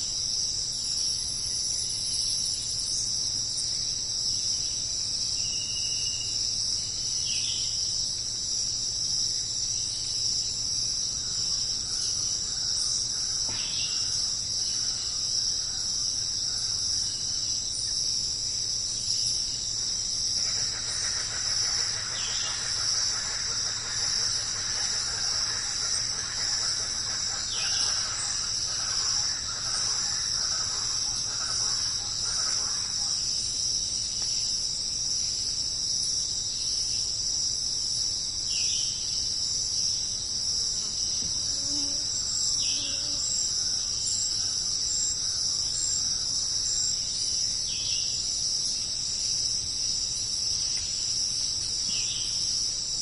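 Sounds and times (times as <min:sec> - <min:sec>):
crickets and insects chirping: 0:00.0 - 0:53.0.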